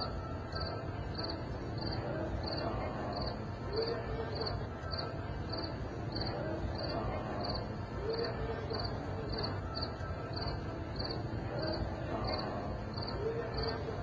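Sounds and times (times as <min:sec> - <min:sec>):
low background murmur: 0:00.0 - 0:14.0.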